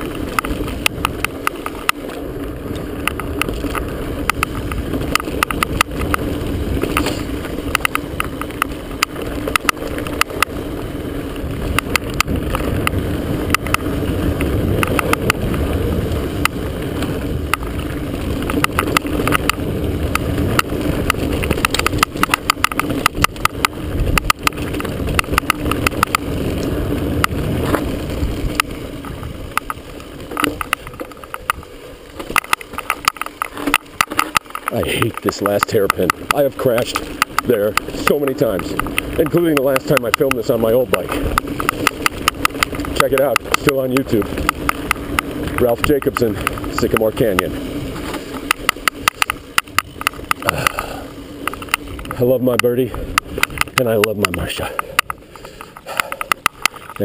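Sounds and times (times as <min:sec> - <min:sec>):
camera clicking and rattling: 0:00.0 - 0:57.0
wind and tyres on dirt: 0:00.0 - 0:57.0.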